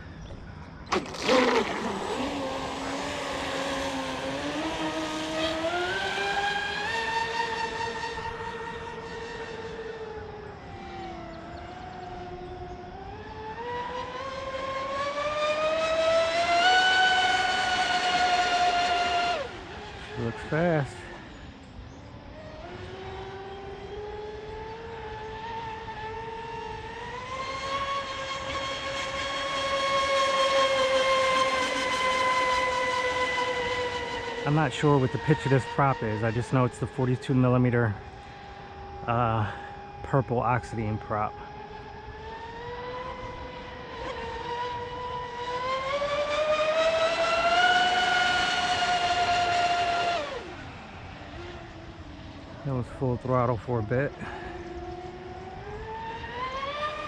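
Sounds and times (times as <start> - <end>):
model speedboat motor whine: 0.0 - 57.0.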